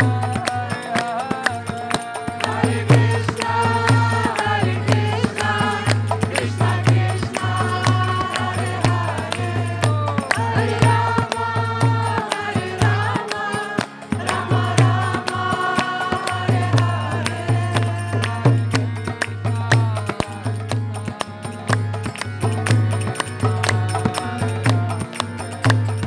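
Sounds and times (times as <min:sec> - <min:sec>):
voices chanting together: 0:00.0 - 0:21.8, 0:23.1 - 0:25.8
rhythmic percussion: 0:00.0 - 0:26.0.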